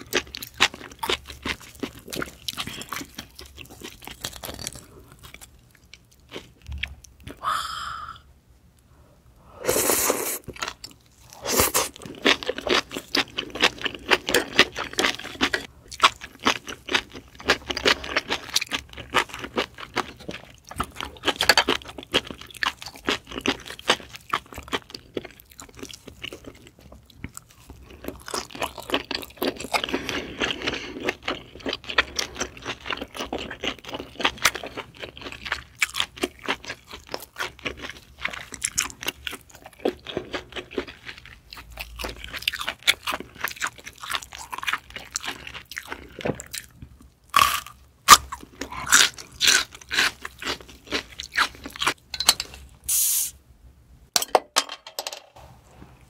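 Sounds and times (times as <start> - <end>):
close chewing with crunches: 0.0 - 7.4, 10.4 - 52.0.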